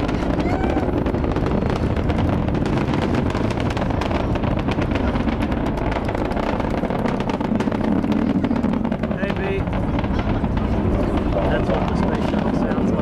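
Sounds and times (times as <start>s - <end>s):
rocket launch roar with crackling: 0.0s - 13.0s.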